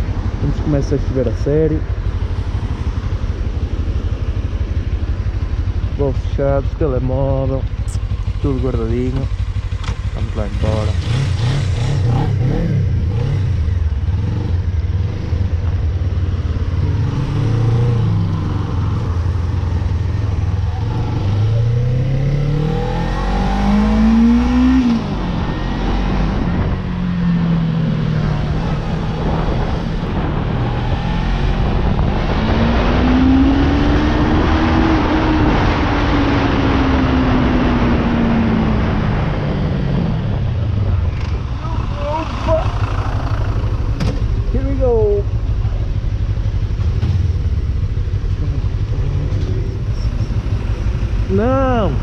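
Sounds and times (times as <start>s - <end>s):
motorcycle engine accelerating: 0.0s - 52.0s
rushing wind noise: 10.3s - 52.0s.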